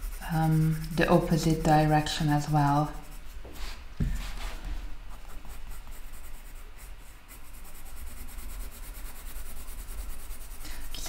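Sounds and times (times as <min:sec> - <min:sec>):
coloured pencil scratching on paper: 0:00.0 - 0:03.8, 0:05.1 - 0:11.0.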